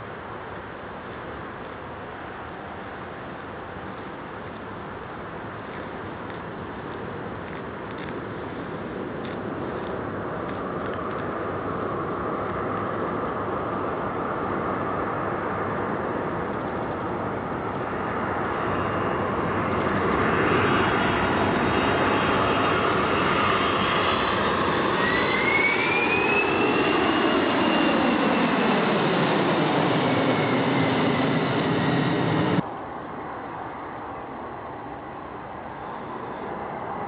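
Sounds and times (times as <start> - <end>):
high jet whine: 0.0 - 37.0
jet engines roaring in flyover: 0.1 - 37.0.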